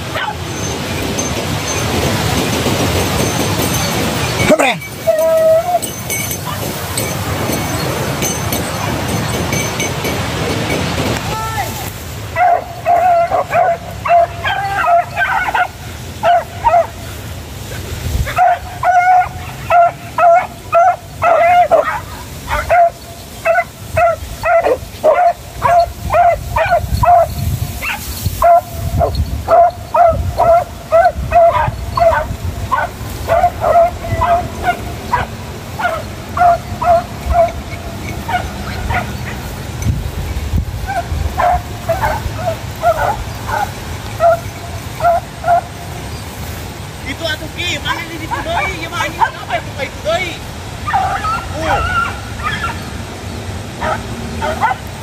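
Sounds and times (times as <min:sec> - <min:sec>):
dogs yipping and barking: 0:00.0 - 0:11.0, 0:12.3 - 0:46.5, 0:47.8 - 0:49.6, 0:50.7 - 0:55.0.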